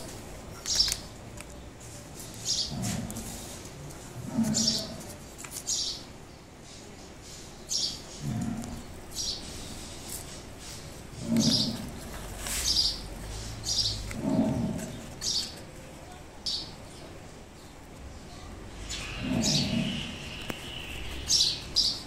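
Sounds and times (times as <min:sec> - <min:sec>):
birds chirping: 0:00.0 - 0:15.8, 0:18.7 - 0:22.0.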